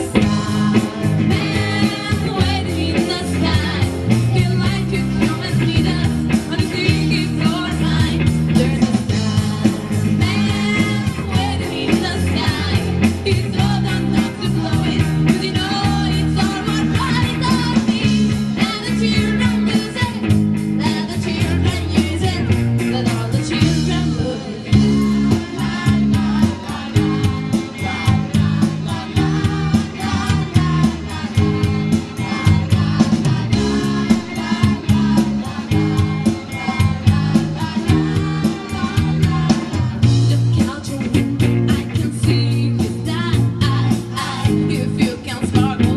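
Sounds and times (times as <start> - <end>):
bass guitar: 0.0 - 45.9
drums: 0.0 - 45.9
electric guitar: 0.0 - 45.9
woman singing: 0.0 - 45.9.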